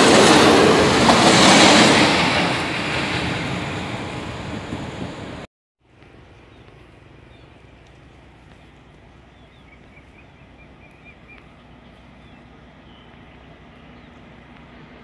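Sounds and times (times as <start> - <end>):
distant diesel locomotive rumble: 0.0 - 15.0.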